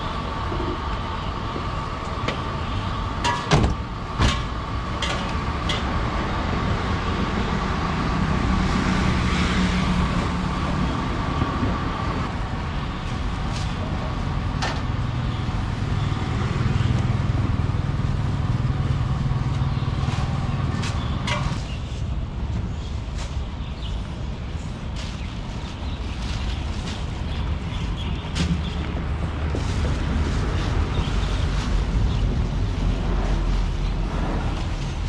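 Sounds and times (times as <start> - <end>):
low engine hum: 0.0 - 35.0
vehicles passing: 0.0 - 35.0.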